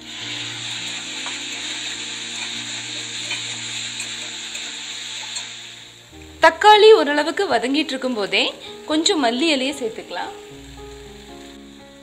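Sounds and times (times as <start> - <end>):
tomatoes sizzling in oil: 0.0 - 12.0.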